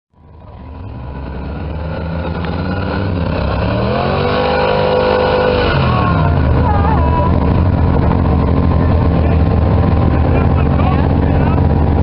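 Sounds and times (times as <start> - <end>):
truck engine revving: 0.2 - 12.0.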